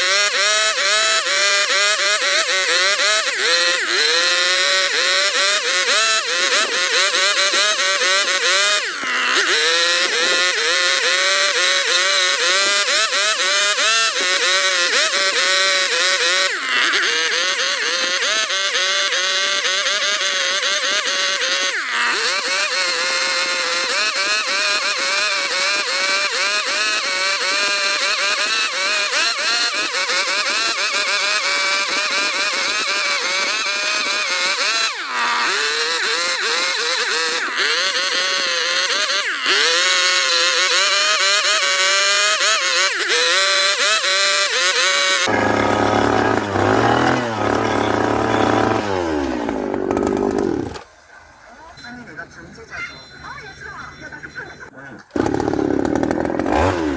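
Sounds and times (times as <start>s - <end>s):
power tool cutting wood: 0.0s - 50.9s, 55.1s - 56.9s.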